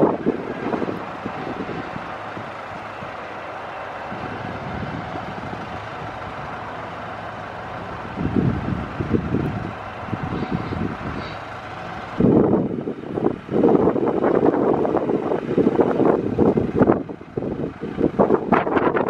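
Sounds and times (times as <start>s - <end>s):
van engine idling: 0.0s - 19.0s
wind gusts on microphone: 0.0s - 19.0s.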